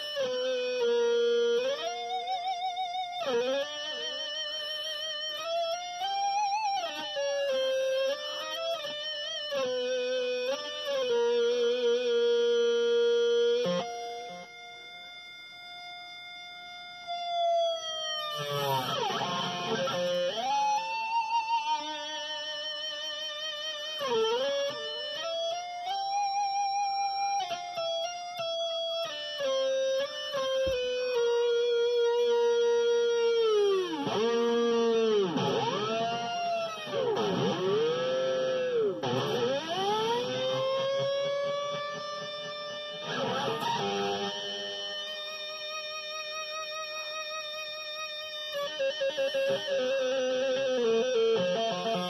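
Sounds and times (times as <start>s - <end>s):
sustained electric guitar notes: 0.0s - 52.0s.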